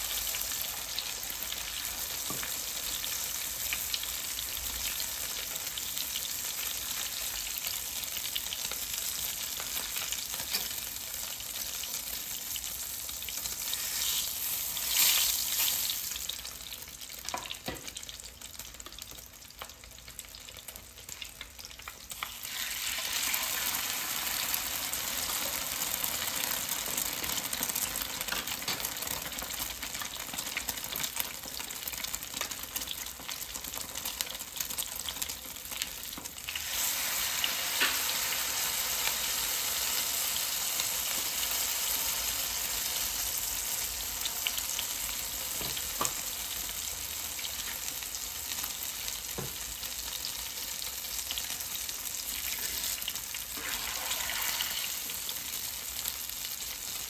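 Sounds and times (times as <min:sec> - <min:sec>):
omelette frying in hot oil: 0:00.0 - 0:57.0.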